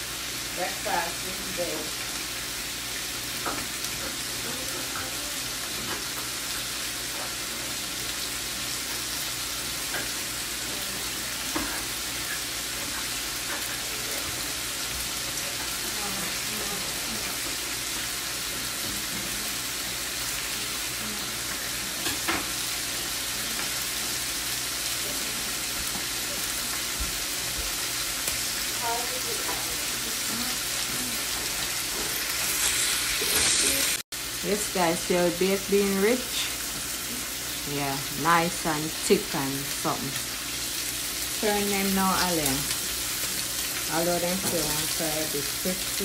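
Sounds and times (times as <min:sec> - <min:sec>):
bacon sizzling in a frying pan: 0:00.0 - 0:46.0.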